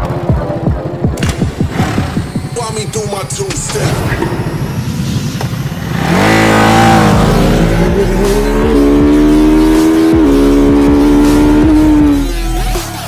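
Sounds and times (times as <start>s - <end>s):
motorcycle engine burbling and popping: 0.0s - 12.2s
motorcycle accelerating: 0.0s - 12.8s.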